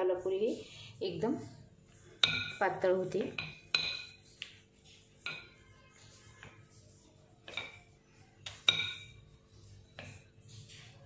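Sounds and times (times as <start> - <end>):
rolling pin rolling dough: 0.1 - 11.0.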